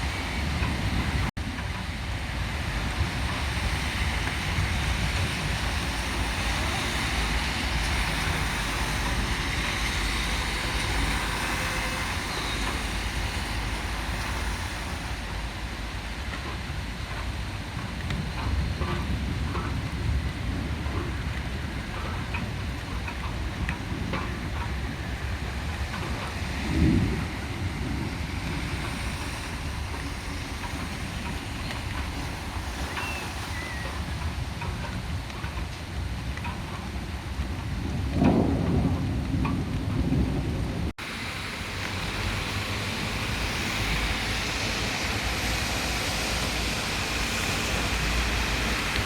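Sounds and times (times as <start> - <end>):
wind rumbling on microphone: 0.0 - 49.0
heavy rain hissing: 1.9 - 34.5, 40.0 - 49.0.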